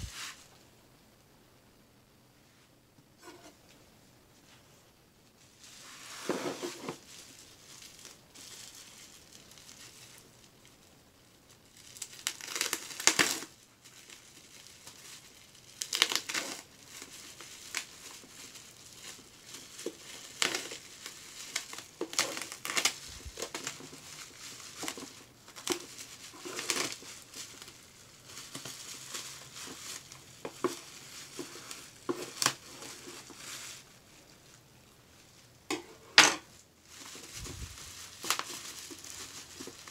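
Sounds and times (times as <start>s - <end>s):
bubble wrap crinkling: 4.4s - 39.9s.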